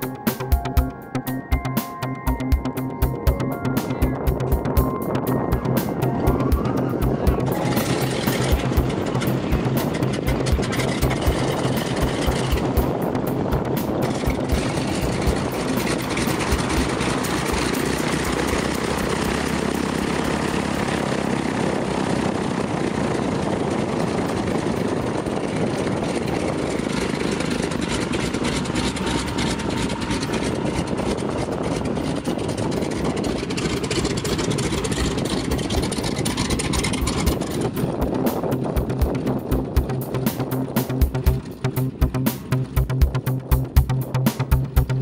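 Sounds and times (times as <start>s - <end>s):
propeller plane engine running: 0.0s - 45.0s.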